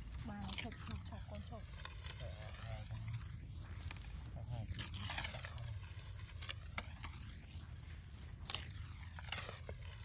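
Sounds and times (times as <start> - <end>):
low steady rumble: 0.0 - 10.0
wood fire crackling: 0.0 - 10.0.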